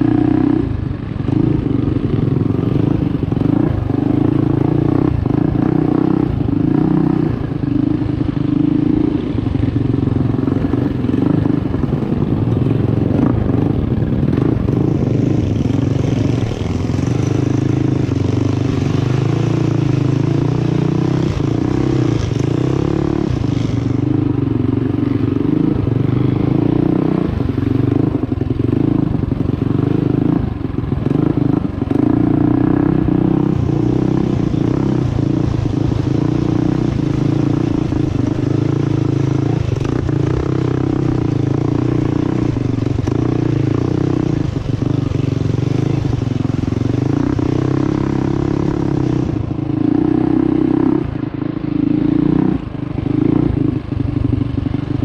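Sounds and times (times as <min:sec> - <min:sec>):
small motorbike engine revving: 0:01.3 - 0:51.2.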